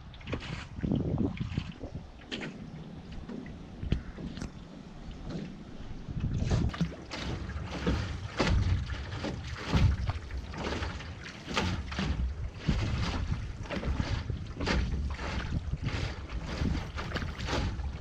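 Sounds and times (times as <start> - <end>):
paddle splashing water: 0.0 - 18.0
wind rumbling on microphone: 0.0 - 18.0.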